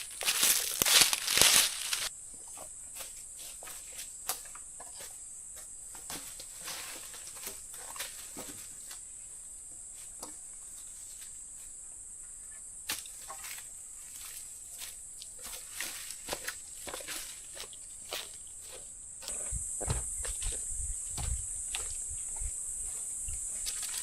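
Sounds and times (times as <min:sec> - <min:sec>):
rustling and crinkling: 0:00.0 - 0:05.2, 0:05.9 - 0:09.2, 0:12.9 - 0:24.0
insects droning: 0:00.0 - 0:24.0.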